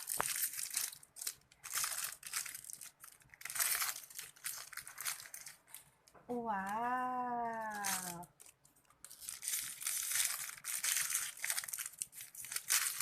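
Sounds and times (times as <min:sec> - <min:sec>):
plastic packaging crinkling and tearing: 0:00.0 - 0:13.0.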